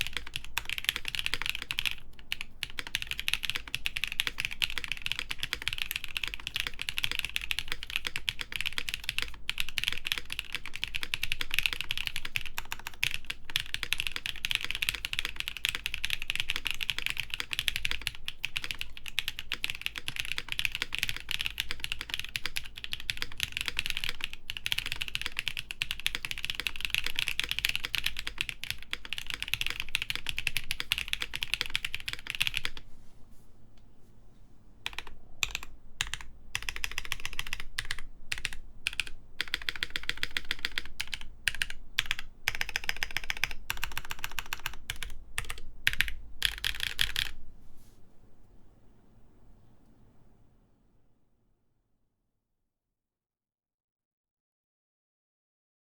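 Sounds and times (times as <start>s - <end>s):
mechanical keyboard typing: 0.0s - 32.8s, 34.9s - 47.4s.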